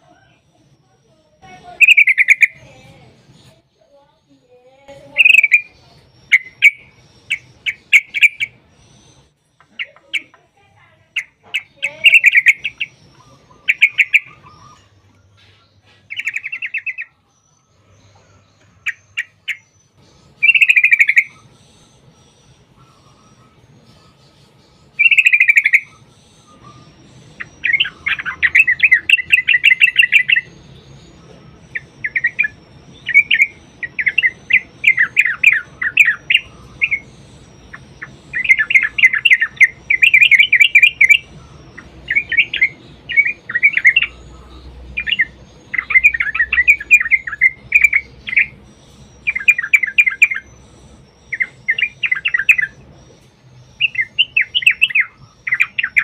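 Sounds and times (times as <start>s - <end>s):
bulbul fast chattering song: 0.0s - 56.0s.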